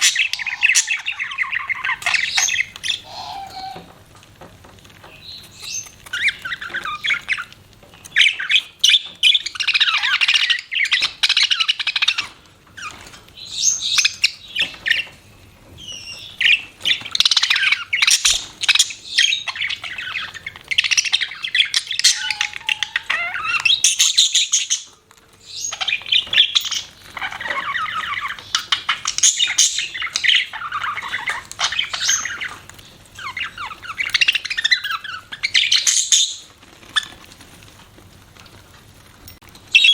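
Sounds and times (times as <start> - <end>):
budgerigars chattering and warbling: 0.0 - 4.0, 5.1 - 15.2, 15.8 - 37.2.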